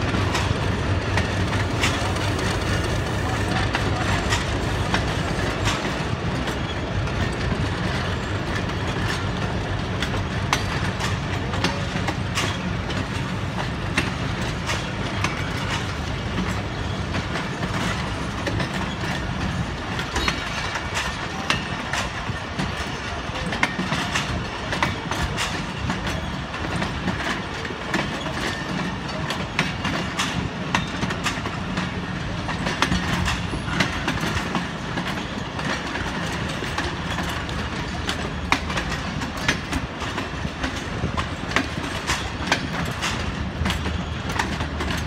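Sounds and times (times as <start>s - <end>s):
train coaches rumbling past: 0.0s - 45.0s
wheels clicking on track: 0.0s - 45.0s.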